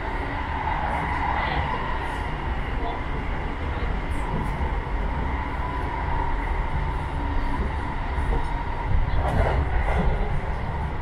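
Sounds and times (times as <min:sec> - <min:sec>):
faint train whine: 0:00.0 - 0:11.0
train wheels rumbling on rail: 0:00.0 - 0:11.0.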